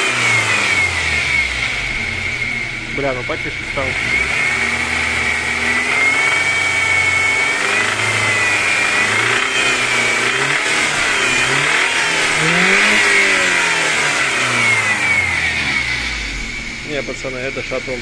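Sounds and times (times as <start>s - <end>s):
engine knocking: 0.0s - 18.0s
petrol engine revving: 0.0s - 18.0s.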